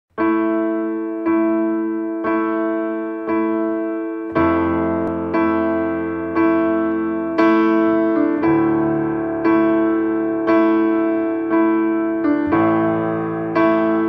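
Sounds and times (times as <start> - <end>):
slow sustained keyboard chords: 0.7 - 14.0.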